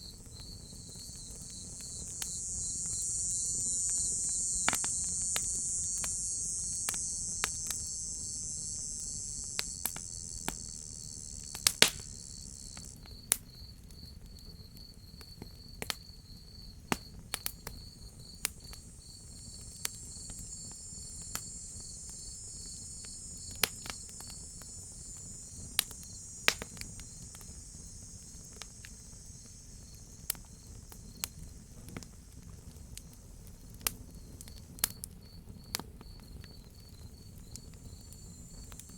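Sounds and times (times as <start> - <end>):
crickets chirping: 0.0 - 38.9
high insect chorus: 0.0 - 38.9
wood fire crackling and popping: 0.1 - 13.4, 16.9 - 38.9.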